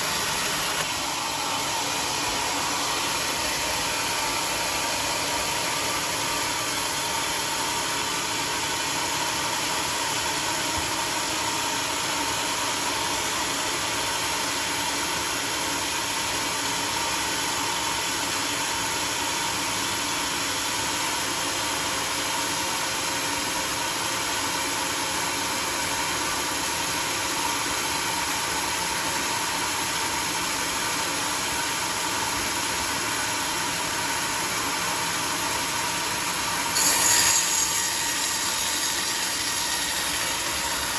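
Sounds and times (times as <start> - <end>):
sawmill engine and blade running: 0.0 - 40.9.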